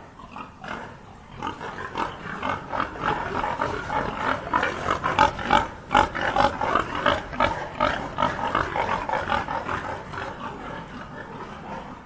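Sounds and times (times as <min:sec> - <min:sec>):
pigs grunting and squealing: 0:00.1 - 0:12.0.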